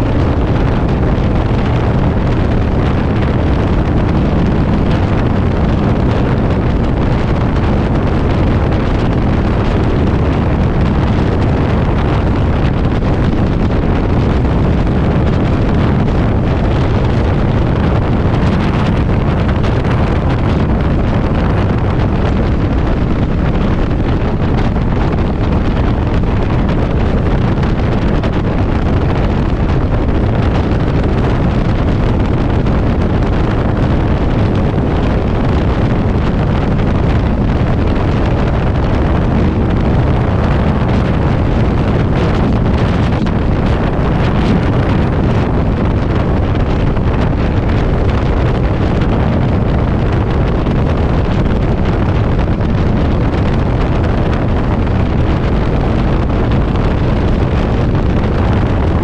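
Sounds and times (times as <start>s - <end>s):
motorcycle running: 0.0s - 59.0s
wind buffeting microphone: 0.0s - 59.0s.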